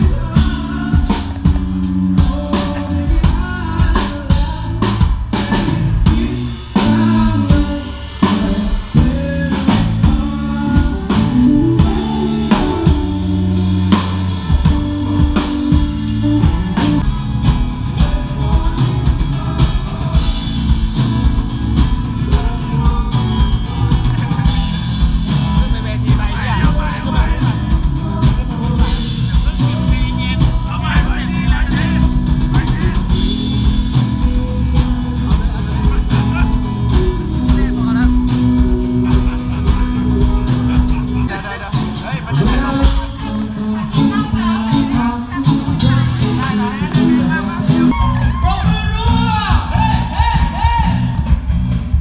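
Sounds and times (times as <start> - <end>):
bass guitar: 0.0 - 52.0
drum kit: 0.0 - 52.0
electric guitars: 0.0 - 52.0.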